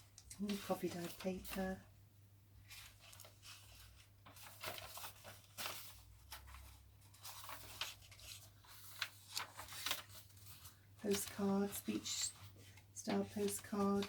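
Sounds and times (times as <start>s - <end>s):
paper pages rustling and crinkling: 0.0s - 1.8s, 2.6s - 14.0s.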